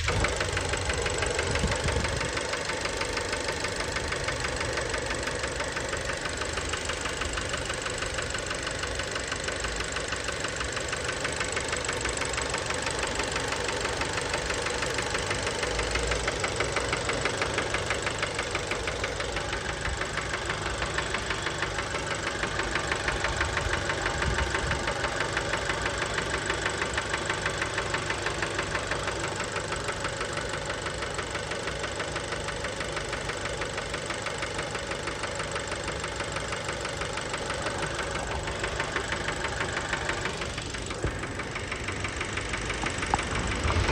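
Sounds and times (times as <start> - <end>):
car engine running: 0.0 - 43.9
engine knocking rattle: 0.0 - 43.9.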